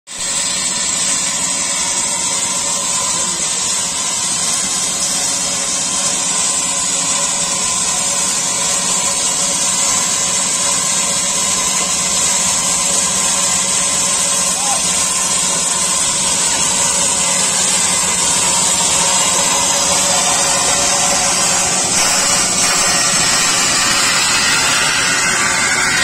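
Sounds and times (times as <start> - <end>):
high whine and hiss: 0.2 - 26.0
machinery engine running: 0.2 - 26.0.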